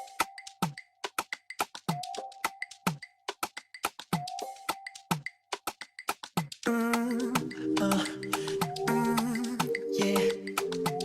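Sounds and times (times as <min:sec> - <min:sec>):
hip-hop beat: 0:00.0 - 0:05.3, 0:06.6 - 0:11.0.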